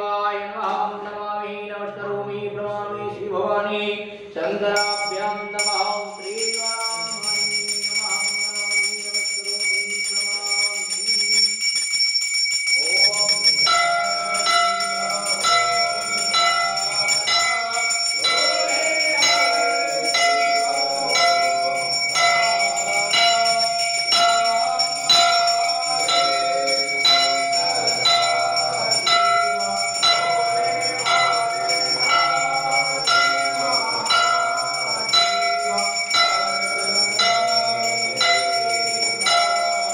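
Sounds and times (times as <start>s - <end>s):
hand bell ringing: 4.8s - 39.9s.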